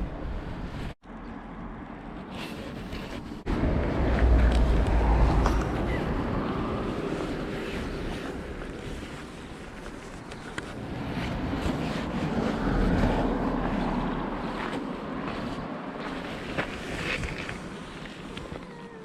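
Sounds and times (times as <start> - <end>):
wind buffeting microphone: 2.8 - 18.6.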